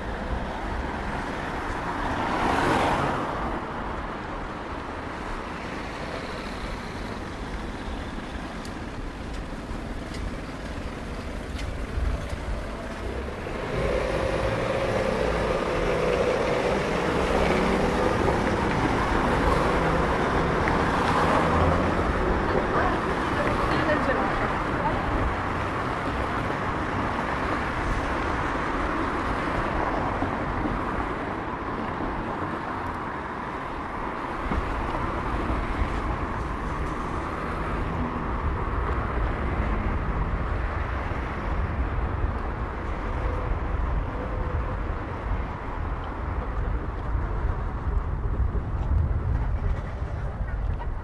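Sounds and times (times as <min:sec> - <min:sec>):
road traffic noise: 0:00.0 - 0:51.0.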